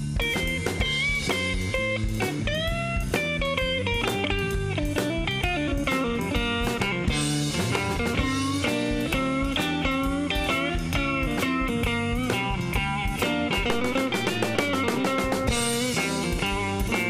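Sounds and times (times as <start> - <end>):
drum kit: 0.0 - 17.0
electric guitar lead solo: 0.0 - 17.0.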